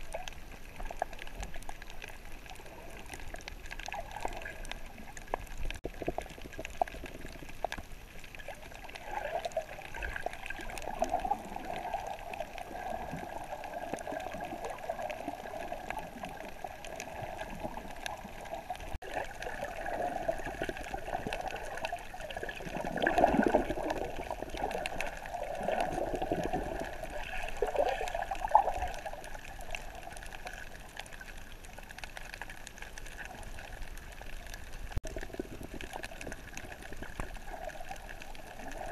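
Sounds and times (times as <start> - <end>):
underwater water sloshing: 0.0 - 38.9.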